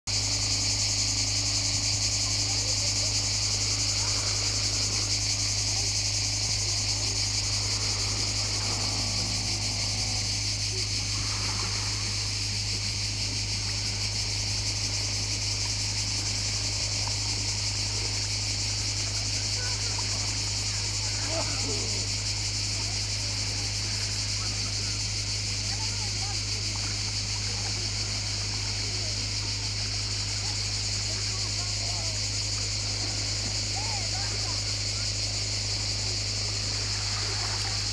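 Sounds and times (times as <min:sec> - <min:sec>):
cicadas buzzing: 0:00.1 - 0:37.9
steady low hum: 0:00.1 - 0:37.9.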